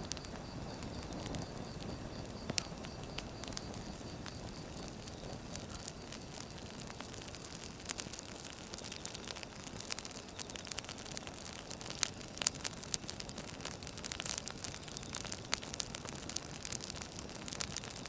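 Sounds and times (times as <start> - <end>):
firewood burning and crackling: 0.0 - 18.0.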